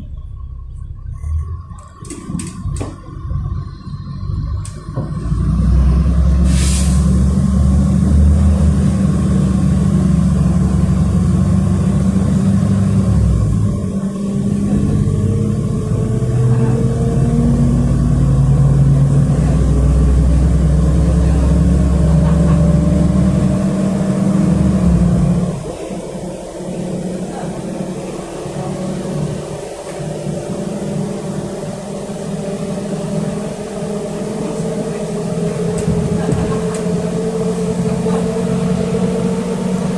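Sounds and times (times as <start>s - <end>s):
bus engine pulling: 0.0s - 39.9s
drivetrain whine: 0.0s - 39.9s.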